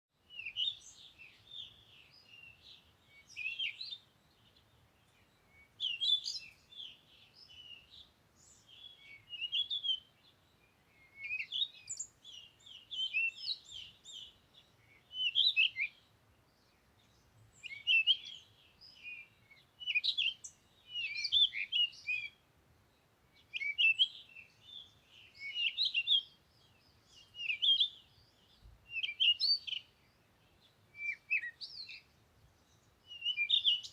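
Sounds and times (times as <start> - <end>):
songbird chirps and twitters: 0.2 - 33.9.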